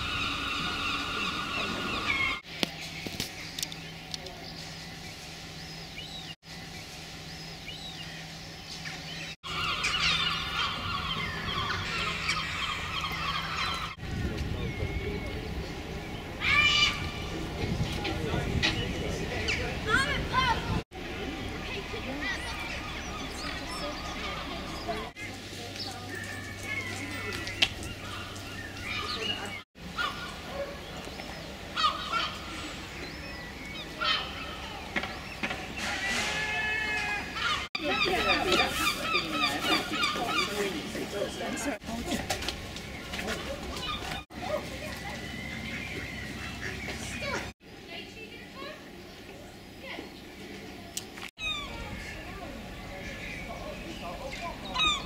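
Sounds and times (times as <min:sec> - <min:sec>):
gulls calling: 0:00.0 - 0:55.0
steady background noise: 0:00.0 - 0:55.0.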